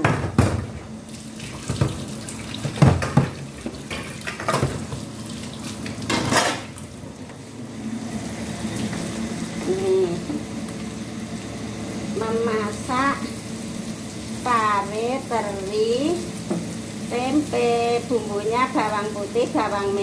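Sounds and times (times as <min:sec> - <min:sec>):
food sizzling in oil: 0:00.6 - 0:20.0.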